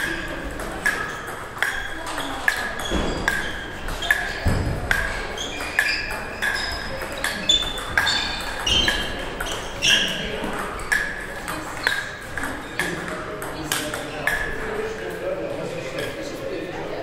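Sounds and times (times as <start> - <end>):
table tennis ball pinging: 0.0 - 14.8.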